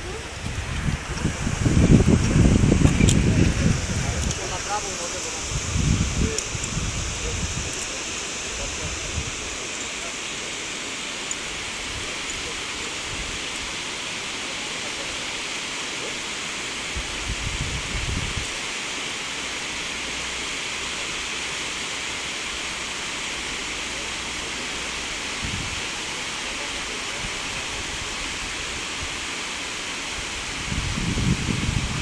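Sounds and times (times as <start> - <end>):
stream flowing over stones: 0.0 - 32.0.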